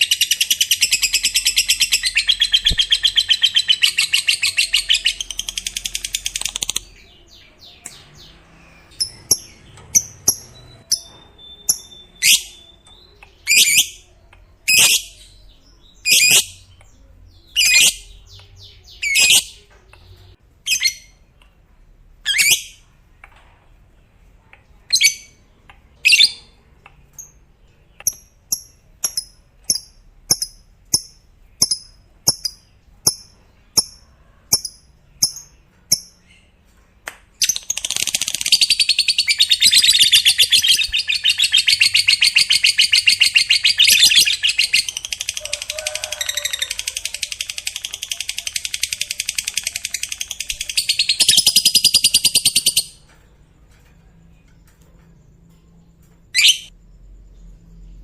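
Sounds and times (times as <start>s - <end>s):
lovebird chirps: 0.0s - 21.3s, 24.8s - 36.6s, 37.3s - 53.2s, 55.8s - 58.0s.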